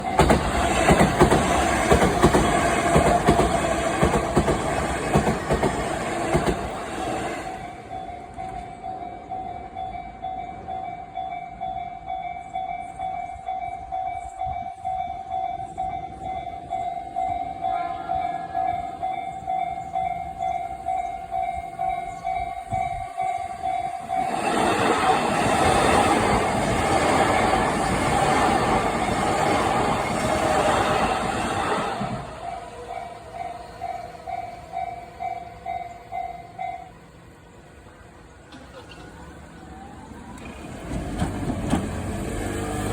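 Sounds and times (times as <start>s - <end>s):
electric train rushing past: 0.0s - 42.9s.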